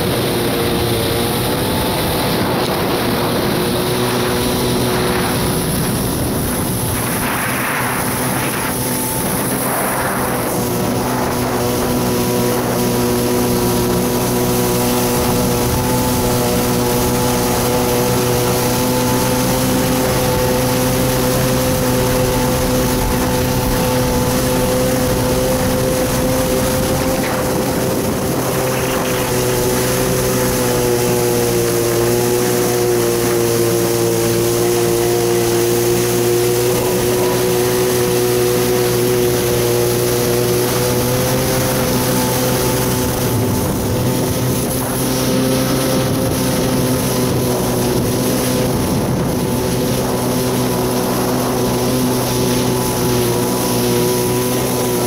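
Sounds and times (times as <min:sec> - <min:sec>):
jet ski engine whine: 0:00.0 - 0:55.0
water spray rushing: 0:00.0 - 0:55.0.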